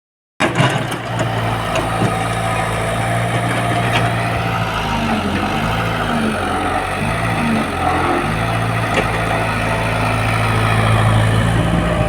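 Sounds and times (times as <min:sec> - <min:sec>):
tractor diesel engine running: 0:00.6 - 0:12.0.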